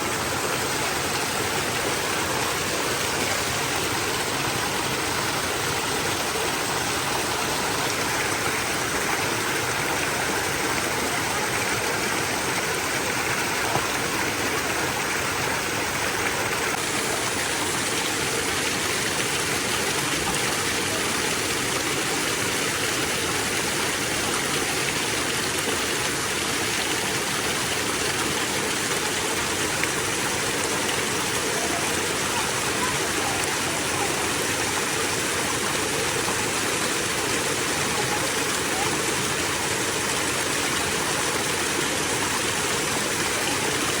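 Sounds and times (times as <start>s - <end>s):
running water: 0.0s - 44.0s.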